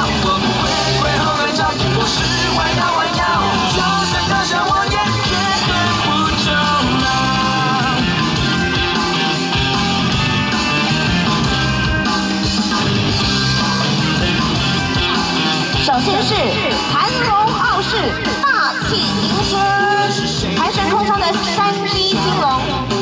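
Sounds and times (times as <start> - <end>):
loud rock music with singing: 0.0 - 23.0.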